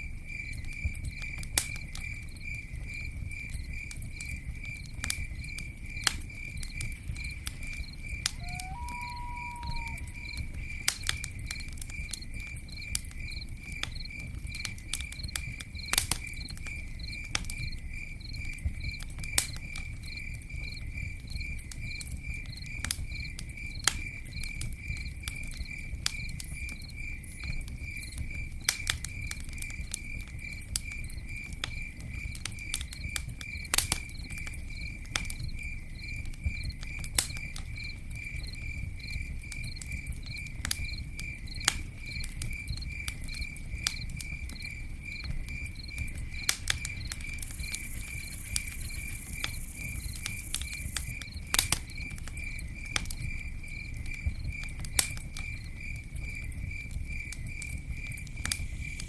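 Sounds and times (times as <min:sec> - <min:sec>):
campfire crackling and popping: 0:00.0 - 0:59.0
cricket chirping: 0:00.0 - 0:59.0.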